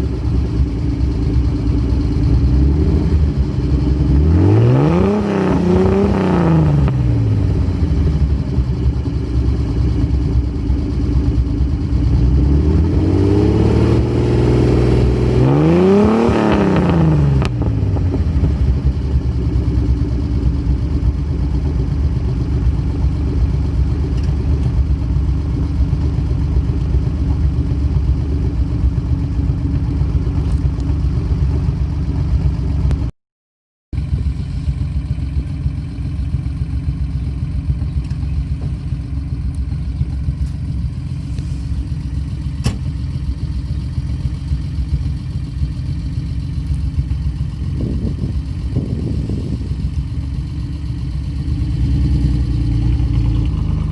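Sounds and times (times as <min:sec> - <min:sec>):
car engine idling and revving: 0:00.0 - 0:33.1, 0:34.0 - 0:53.9.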